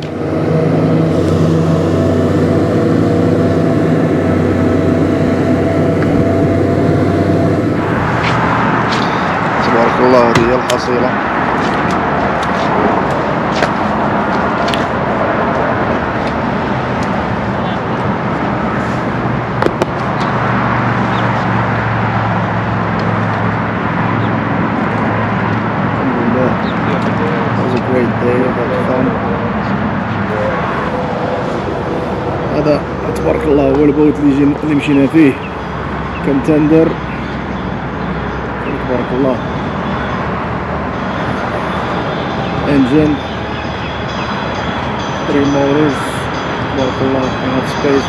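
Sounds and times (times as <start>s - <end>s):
outboard motors running: 0.0s - 11.6s, 12.9s - 48.0s.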